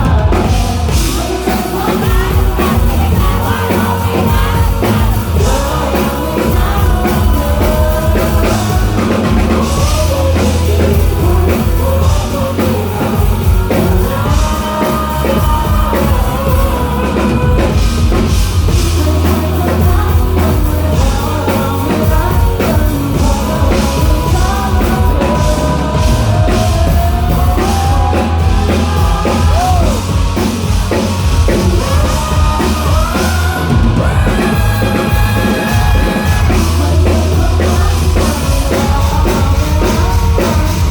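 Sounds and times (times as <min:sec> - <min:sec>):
live rock band: 0:00.0 - 0:40.9
person singing: 0:00.0 - 0:40.9.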